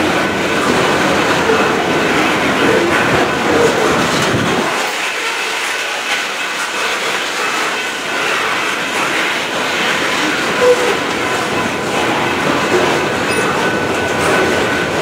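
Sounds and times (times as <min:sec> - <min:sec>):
train wheels rumbling on rail: 0:00.0 - 0:15.0
wheels clattering over rail joints: 0:00.0 - 0:15.0.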